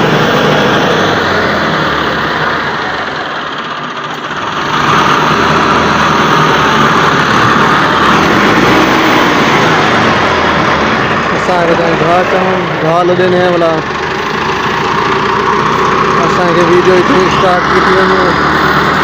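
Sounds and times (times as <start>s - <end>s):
motor vehicle engine running: 0.0s - 19.0s.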